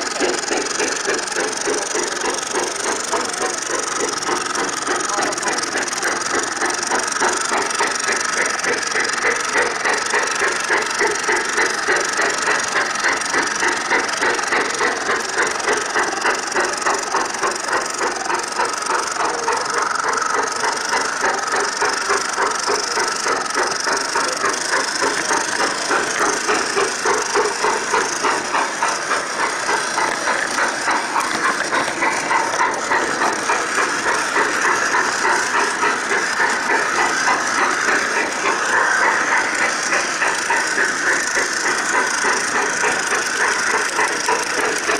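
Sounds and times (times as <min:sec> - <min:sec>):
model train running on track: 0:00.0 - 0:44.9.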